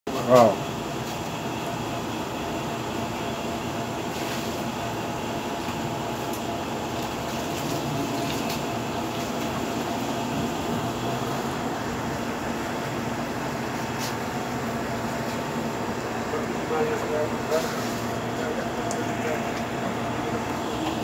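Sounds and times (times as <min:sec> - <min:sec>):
machine hum: 0:00.1 - 0:21.0.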